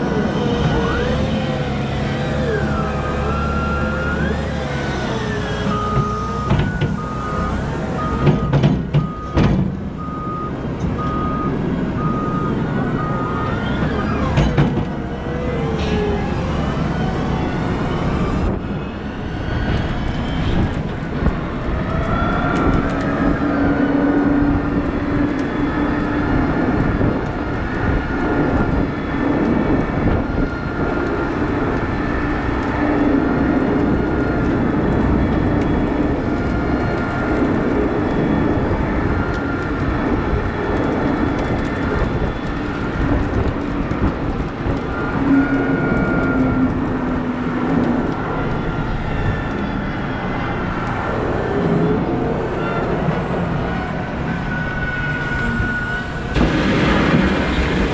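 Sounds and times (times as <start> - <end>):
diesel engine rumbling under load: 0.0 - 57.9
whining tones: 0.0 - 57.9.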